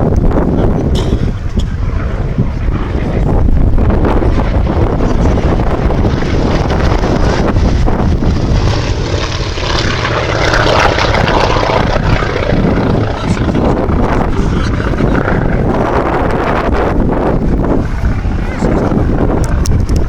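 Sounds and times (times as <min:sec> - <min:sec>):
propeller plane engine droning: 0:00.0 - 0:20.0.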